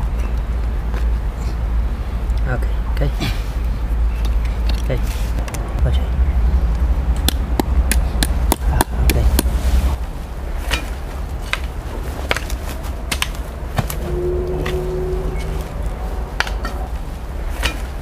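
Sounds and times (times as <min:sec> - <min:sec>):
heavy low rumble: 0:00.0 - 0:18.0.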